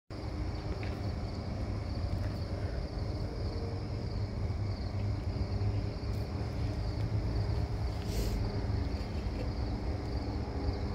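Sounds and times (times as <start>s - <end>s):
crickets chirping: 0.1s - 10.9s
distant freight train rumble: 0.1s - 10.9s.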